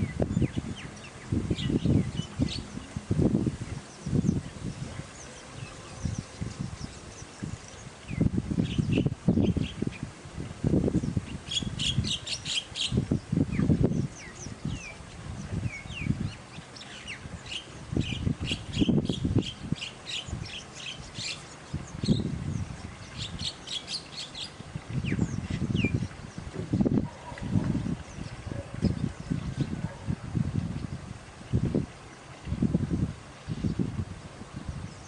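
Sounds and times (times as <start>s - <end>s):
birds chirping: 0.0s - 3.0s, 3.6s - 10.1s, 11.0s - 30.1s.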